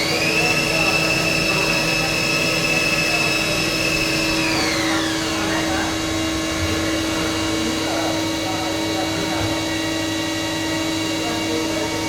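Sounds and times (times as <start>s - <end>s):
low machine hum: 0.0s - 12.0s
machine spindle whine: 0.0s - 12.0s.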